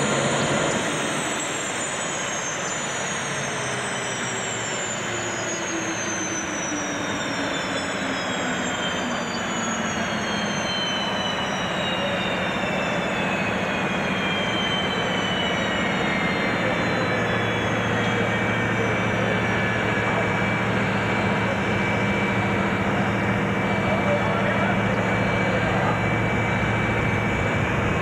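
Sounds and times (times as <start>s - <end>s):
turbine rush with high whine: 0.0s - 28.0s.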